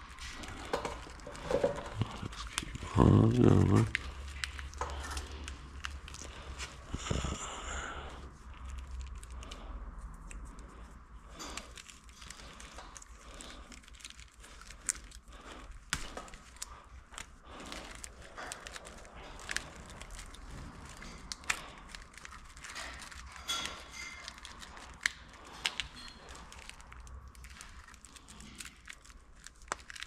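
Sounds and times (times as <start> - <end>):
plastic crinkling and rustling: 0.0 - 30.0.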